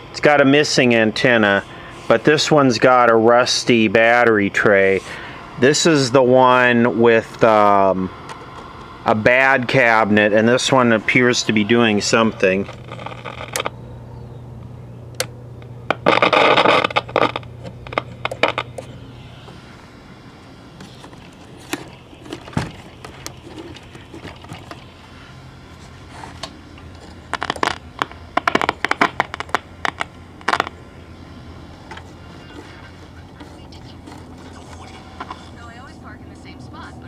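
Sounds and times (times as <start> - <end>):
scratchy radio crackling: 0.0 - 13.8, 15.2 - 37.0
radio low hum: 0.0 - 37.0.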